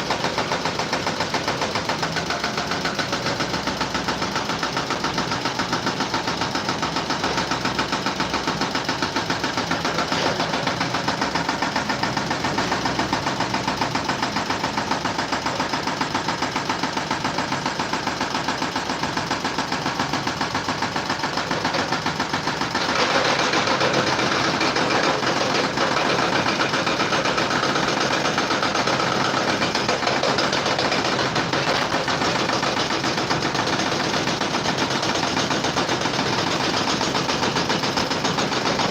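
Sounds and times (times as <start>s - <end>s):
rapid mechanical rattle: 0.0s - 38.9s.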